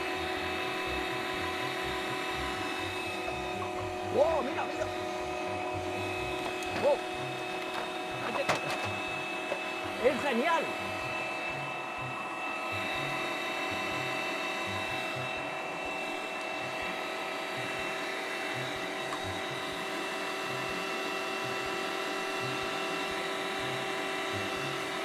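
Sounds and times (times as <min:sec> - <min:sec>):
meat grinder motor whine: 0:00.0 - 0:25.0.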